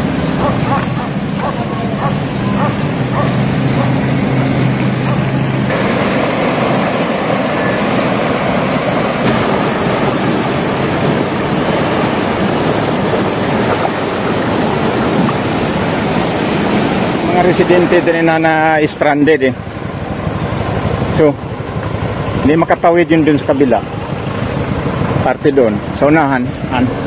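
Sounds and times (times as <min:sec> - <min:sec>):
floodwater rushing: 0:00.0 - 0:27.0
low engine hum: 0:00.0 - 0:27.0.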